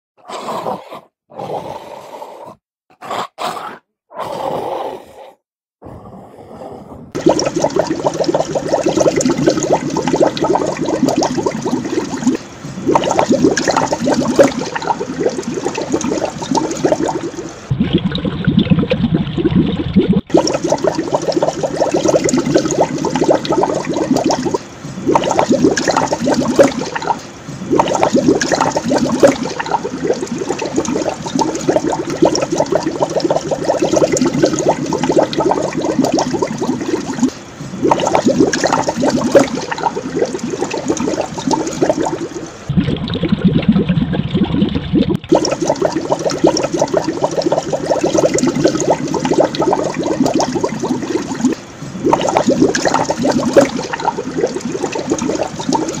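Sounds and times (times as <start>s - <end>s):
air bubbles in aquarium water: 7.1s - 56.0s.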